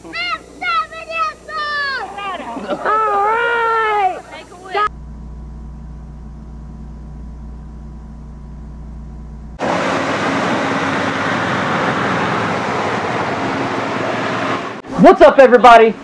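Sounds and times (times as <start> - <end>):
low electrical hum: 0.0 - 16.0
outdoor street ambience: 0.0 - 16.0.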